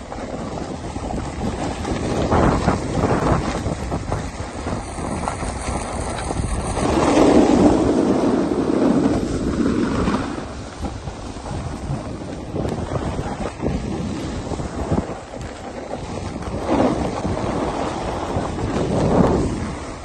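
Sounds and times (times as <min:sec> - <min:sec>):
wind buffeting microphone: 0:00.0 - 0:20.0
skis hissing over snow: 0:00.1 - 0:20.0.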